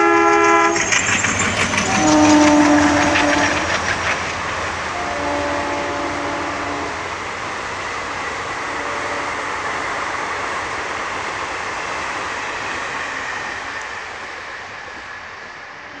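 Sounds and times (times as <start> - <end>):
train wheels rushing on rail: 0.0 - 16.0.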